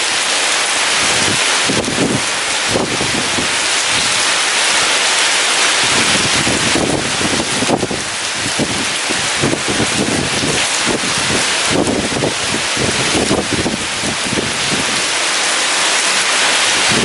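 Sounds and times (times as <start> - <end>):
heavy rain pouring: 0.0 - 17.0
wind rumbling on microphone: 0.7 - 15.2, 15.8 - 17.0.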